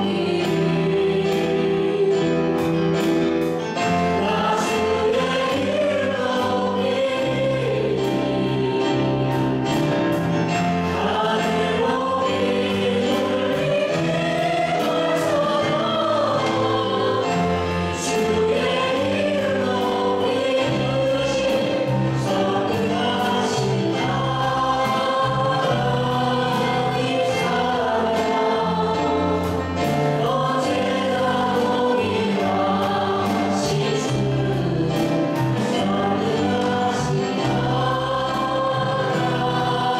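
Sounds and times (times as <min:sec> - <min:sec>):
instrumental accompaniment: 0:00.0 - 0:39.9
people singing in harmony: 0:00.0 - 0:39.9.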